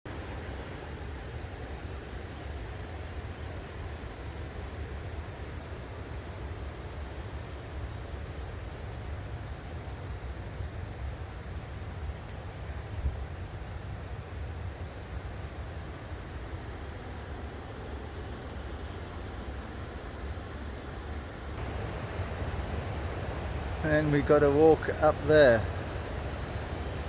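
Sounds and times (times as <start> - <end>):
high insect call pulsing: 0.1 - 27.0
steady hiss: 0.1 - 27.0.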